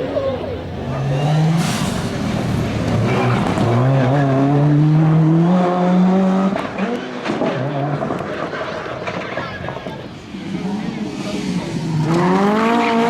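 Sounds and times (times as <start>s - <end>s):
rally car engine accelerating: 0.0s - 9.3s, 10.1s - 13.0s.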